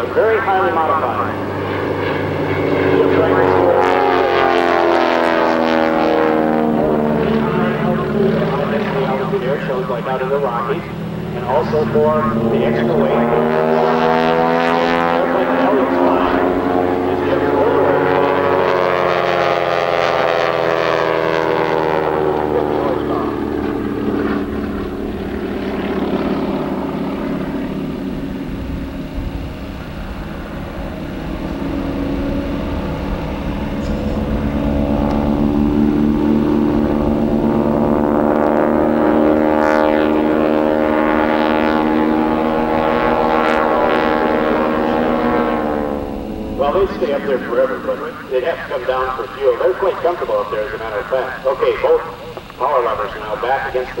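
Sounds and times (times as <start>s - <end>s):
propeller planes passing: 0.0s - 54.0s.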